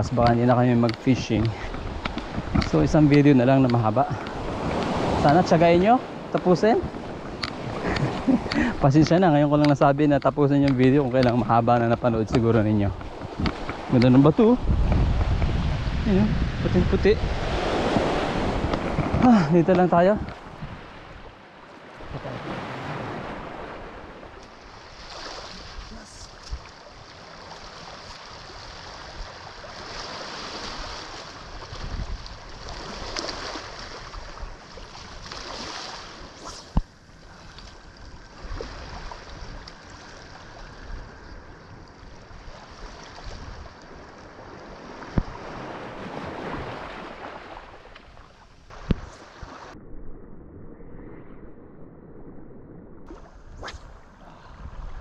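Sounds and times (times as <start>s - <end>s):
wind buffeting microphone: 0.0s - 47.8s, 48.6s - 55.0s.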